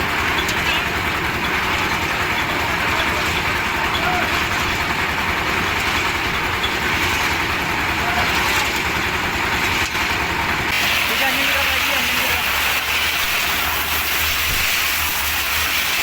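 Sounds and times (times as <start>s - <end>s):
concrete mixer engine running: 0.0s - 16.0s.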